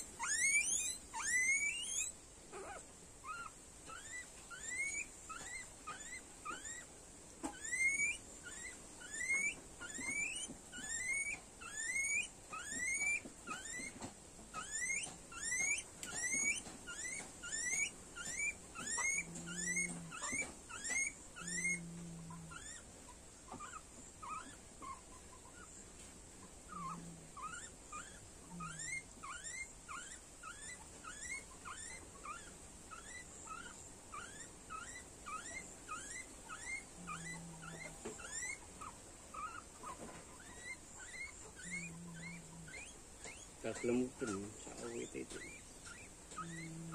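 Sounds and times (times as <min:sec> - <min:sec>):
guinea pig squealing: 0:00.0 - 0:25.8, 0:26.4 - 0:46.9.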